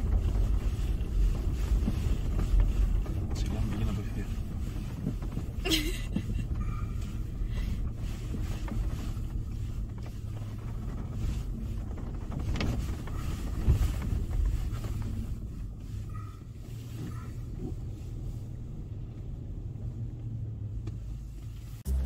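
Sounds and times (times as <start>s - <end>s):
vehicle engine and tyres rumbling: 0.0s - 22.0s.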